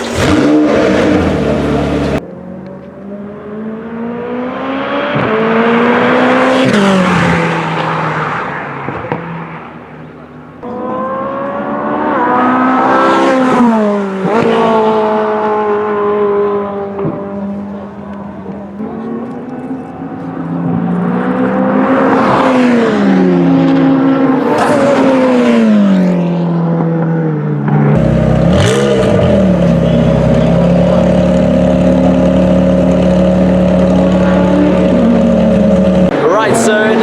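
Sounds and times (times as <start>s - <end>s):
racing cars passing by: 0.0s - 37.0s.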